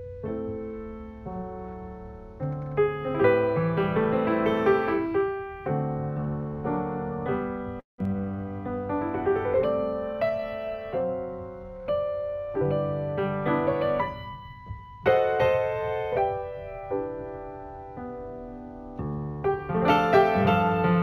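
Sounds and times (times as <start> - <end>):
slow solo piano: 0.0 - 21.0.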